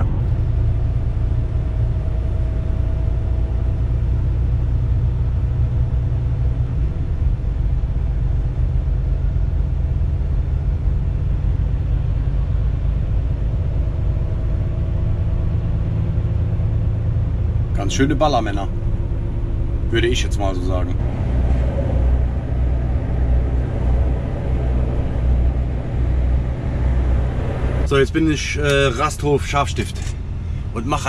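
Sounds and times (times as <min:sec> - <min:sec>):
truck engine drone in cab: 0:00.0 - 0:31.0.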